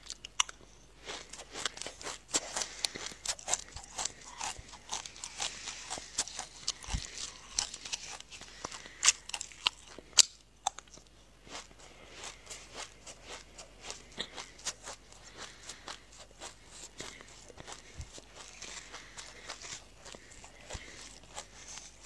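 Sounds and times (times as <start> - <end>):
seeds being crunched and chewed: 0.0 - 22.0.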